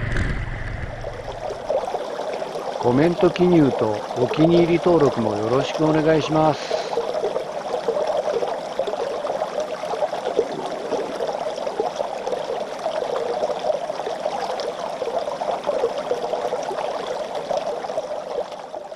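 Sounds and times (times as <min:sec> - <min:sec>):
stream babbling over rocks: 0:00.0 - 0:18.9.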